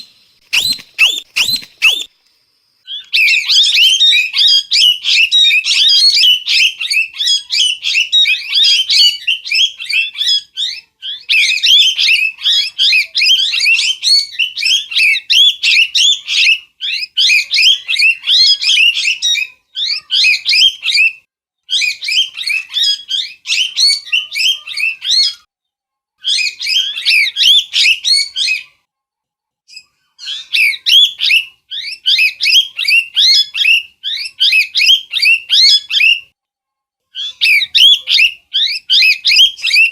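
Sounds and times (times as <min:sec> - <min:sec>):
parrot chirping: 0:00.0 - 0:02.1, 0:02.9 - 0:21.1, 0:21.7 - 0:25.4, 0:26.2 - 0:28.7, 0:29.7 - 0:36.3, 0:37.1 - 0:39.9.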